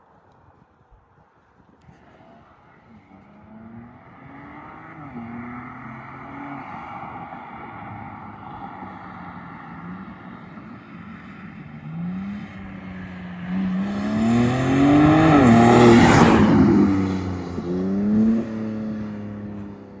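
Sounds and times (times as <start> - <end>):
car exhaust idling and revving: 3.1 - 20.0.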